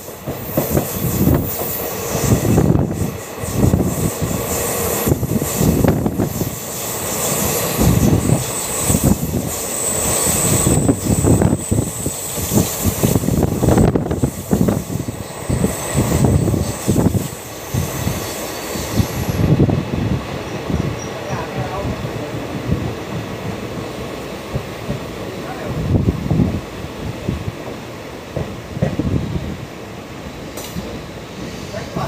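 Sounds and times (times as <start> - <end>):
wind buffeting microphone: 0.0 - 29.9
train rumbling on rails: 0.0 - 32.0.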